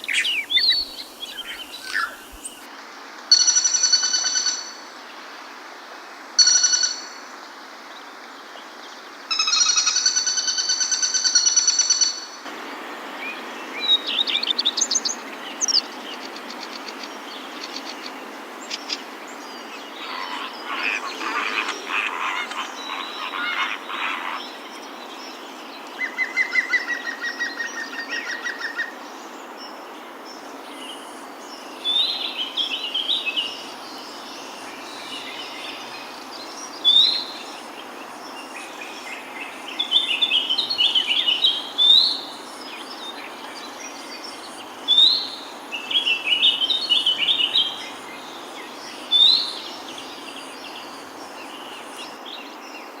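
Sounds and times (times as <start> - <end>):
songbirds singing: 0.0 - 2.7, 12.5 - 53.0.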